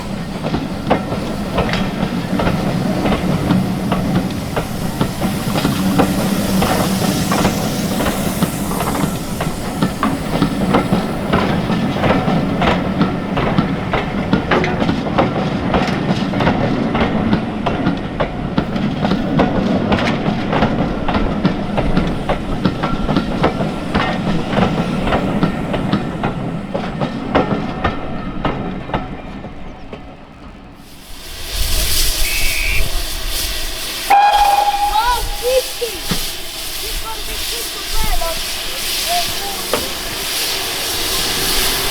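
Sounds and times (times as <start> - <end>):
hiss of steam: 0.0 - 28.8, 30.7 - 41.9
train wheels clicking over rail joints: 0.0 - 41.9.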